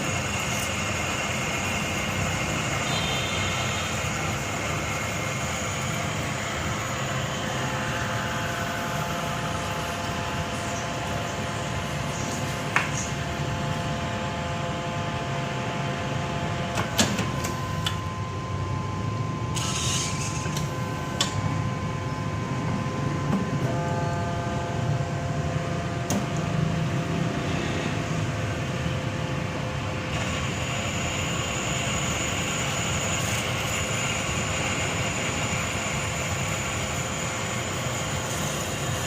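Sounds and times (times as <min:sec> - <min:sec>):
cutting machine hum and whine: 0:00.0 - 0:39.0.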